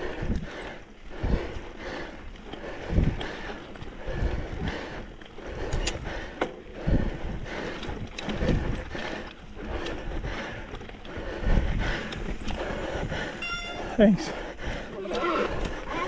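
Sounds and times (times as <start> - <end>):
bike rattling clicks and knocks: 0.0 - 16.0
low tyre rumble: 0.0 - 16.0.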